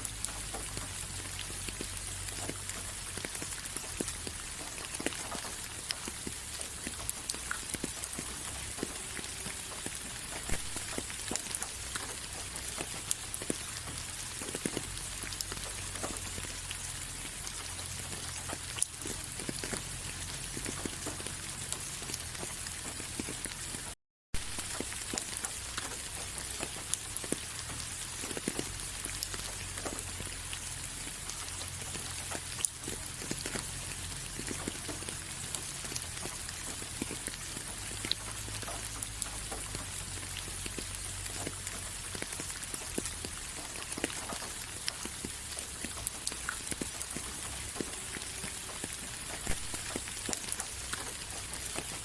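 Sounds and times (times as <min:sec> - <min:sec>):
raindrops ticking on a surface: 0:00.0 - 0:52.0
steady rain hiss: 0:00.0 - 0:52.0.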